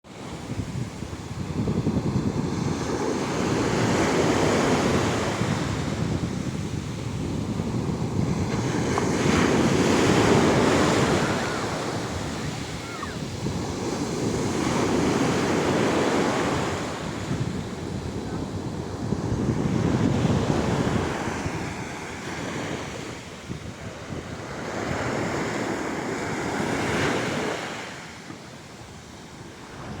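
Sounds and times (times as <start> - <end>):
wind buffeting microphone: 0.1 - 27.7, 28.8 - 30.0
sea waves breaking on shore: 0.1 - 30.0.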